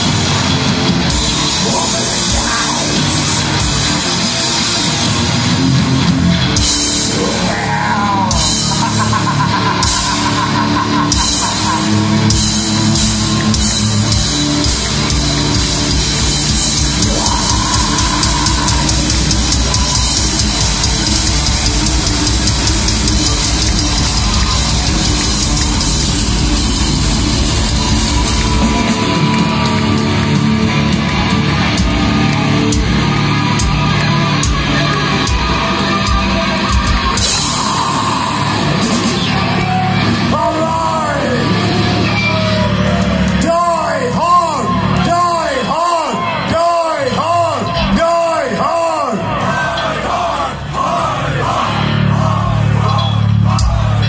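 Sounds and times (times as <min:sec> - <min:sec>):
drum kit: 0:00.0 - 0:43.6, 0:52.2 - 0:54.0
distorted electric guitars: 0:00.0 - 0:54.0.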